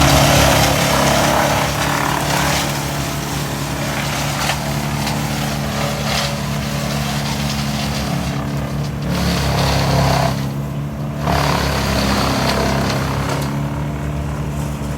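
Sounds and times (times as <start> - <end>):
chainsaw engine at high revs: 0.0 - 14.6.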